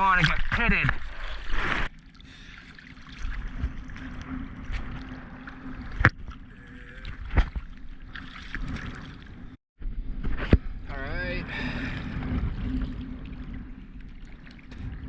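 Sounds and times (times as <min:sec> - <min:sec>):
water sloshing and splashing: 0:00.0 - 0:09.6, 0:11.6 - 0:15.0.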